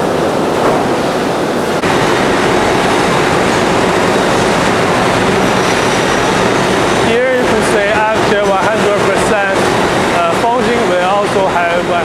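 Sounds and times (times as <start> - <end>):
workshop machinery rumbling: 0.0 - 12.0.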